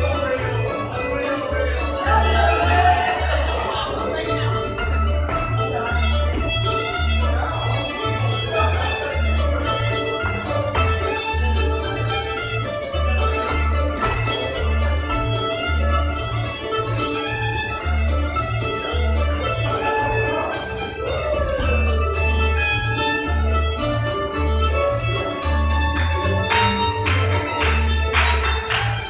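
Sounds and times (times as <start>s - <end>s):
string band playing dance tune: 0.0s - 29.0s
upright bass low notes: 0.0s - 29.0s.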